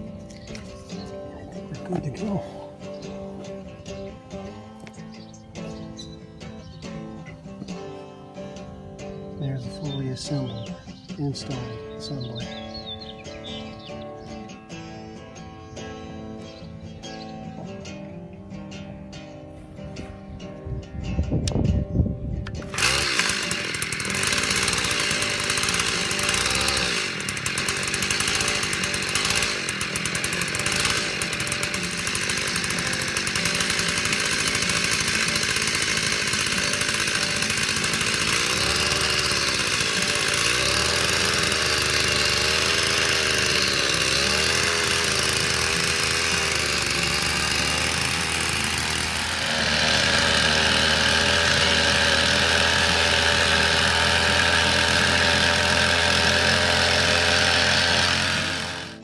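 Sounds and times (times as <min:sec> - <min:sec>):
small tiller engine running: 0:00.0 - 0:14.9, 0:22.4 - 0:59.0.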